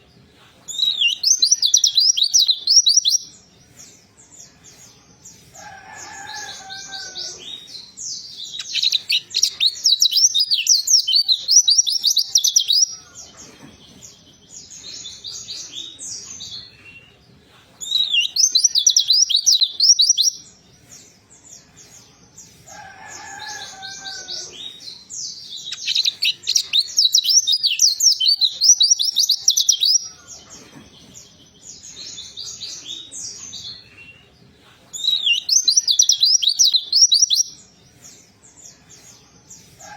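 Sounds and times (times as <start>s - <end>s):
bird twittering song: 0.7s - 39.9s.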